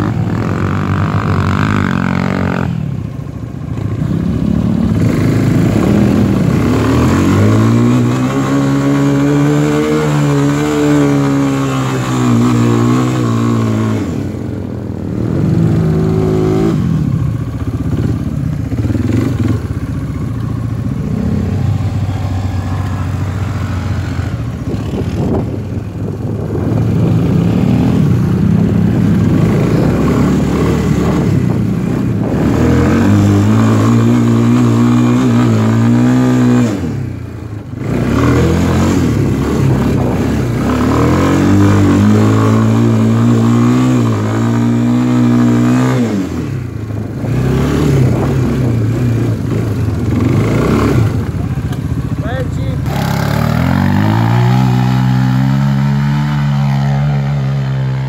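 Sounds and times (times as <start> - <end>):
quad bike engines revving: 0.0 - 58.0.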